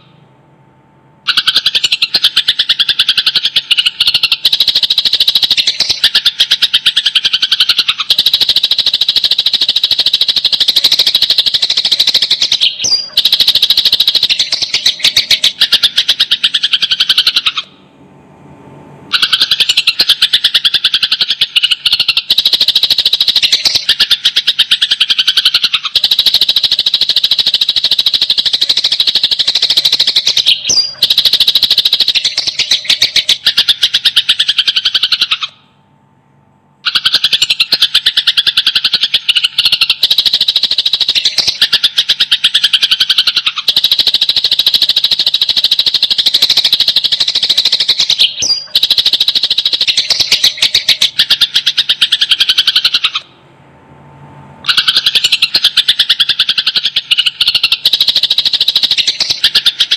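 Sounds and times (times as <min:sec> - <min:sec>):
sparrows chirping rapidly: 0:01.3 - 0:17.7, 0:19.1 - 0:35.5, 0:36.8 - 0:53.2, 0:54.6 - 0:59.9.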